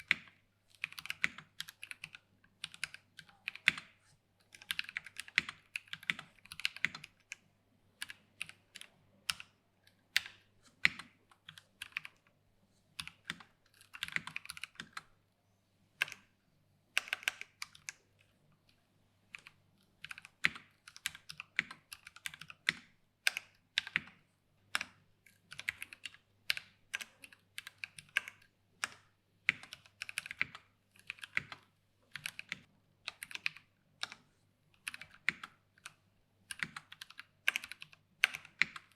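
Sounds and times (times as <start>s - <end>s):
mechanical keyboard typing: 0.0s - 7.4s, 8.0s - 12.3s, 13.0s - 15.1s, 16.0s - 16.3s, 16.9s - 18.1s, 19.3s - 38.9s.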